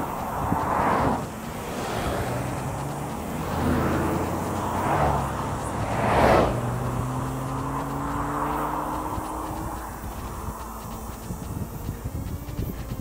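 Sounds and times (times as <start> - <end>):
cars passing: 0.0 - 13.0
low engine hum: 0.0 - 13.0.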